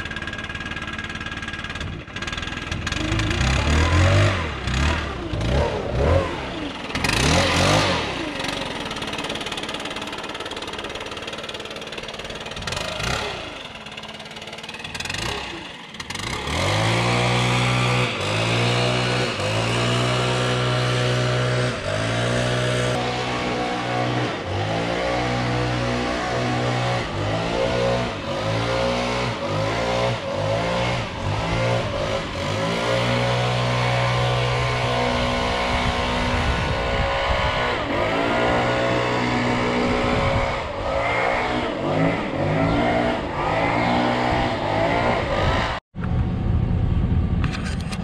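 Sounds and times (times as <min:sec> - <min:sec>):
small two-stroke engine revving: 0:00.0 - 0:45.8.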